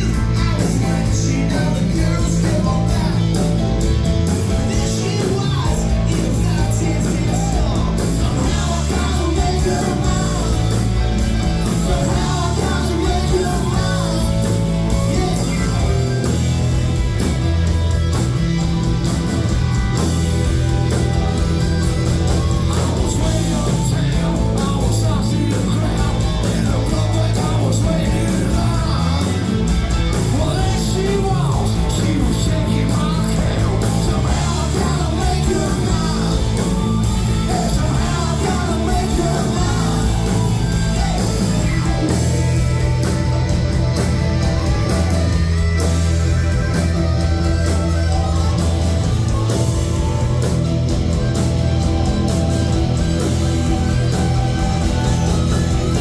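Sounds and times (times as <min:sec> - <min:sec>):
lead melody: 0:00.0 - 0:56.0
rock band playing: 0:00.0 - 0:56.0.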